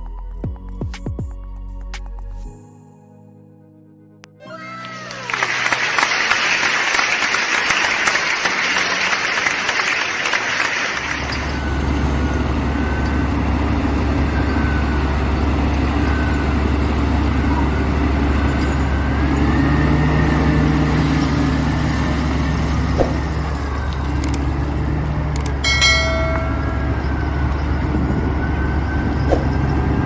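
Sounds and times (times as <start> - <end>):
vehicle engine rumbling: 5.5 - 30.0.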